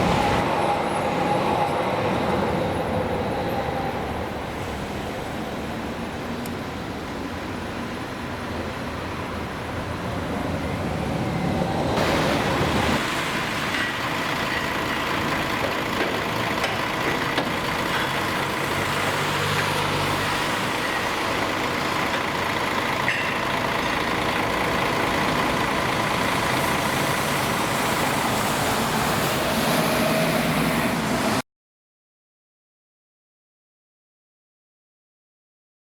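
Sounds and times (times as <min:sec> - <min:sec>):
heavy vehicle engine: 0:00.0 - 0:31.4.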